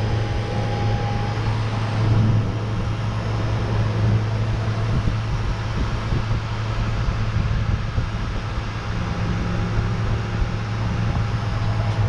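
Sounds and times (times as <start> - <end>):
compressor humming: 0.0 - 12.0
fan air noise: 0.0 - 12.0.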